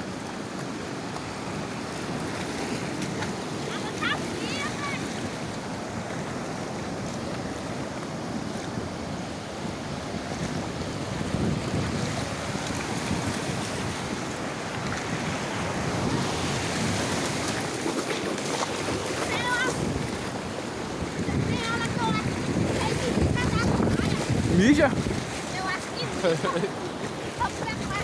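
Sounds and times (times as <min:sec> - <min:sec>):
surf washing onto beach: 0:00.0 - 0:28.0
wind buffeting microphone: 0:01.6 - 0:28.0.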